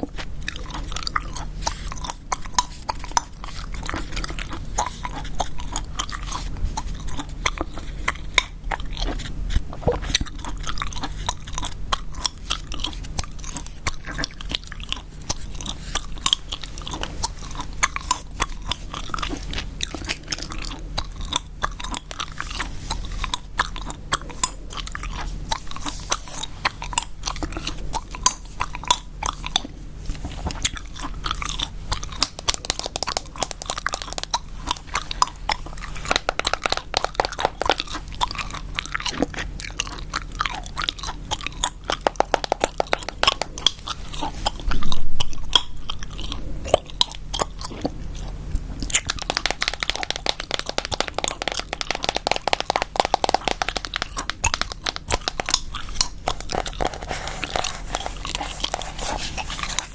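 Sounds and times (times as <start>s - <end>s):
gum chewing: 0.0s - 59.9s.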